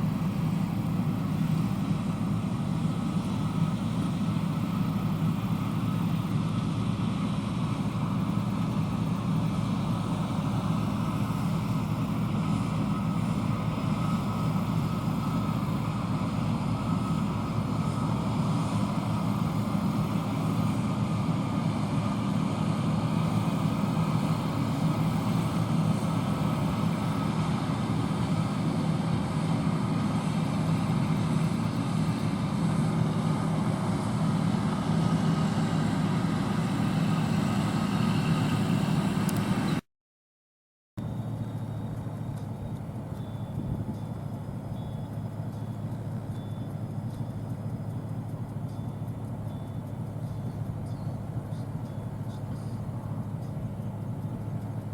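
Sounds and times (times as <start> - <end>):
combine harvester running: 0.0 - 39.8, 41.0 - 54.9.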